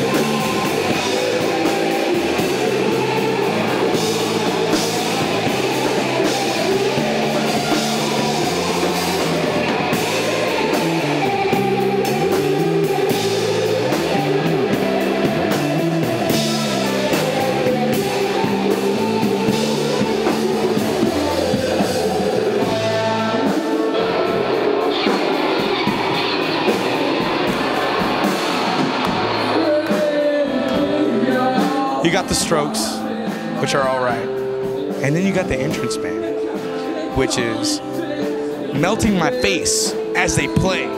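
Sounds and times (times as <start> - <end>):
bass line: 0.0 - 40.9
electric guitar: 0.0 - 40.9.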